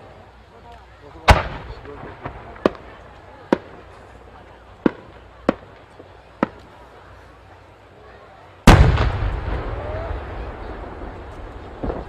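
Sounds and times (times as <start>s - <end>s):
firework crack: 0.0s - 7.9s, 8.6s - 12.0s.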